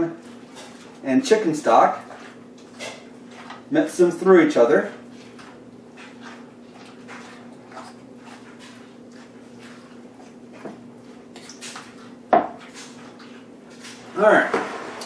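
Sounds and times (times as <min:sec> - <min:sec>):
wet squishing of food mixing: 0:00.0 - 0:14.9.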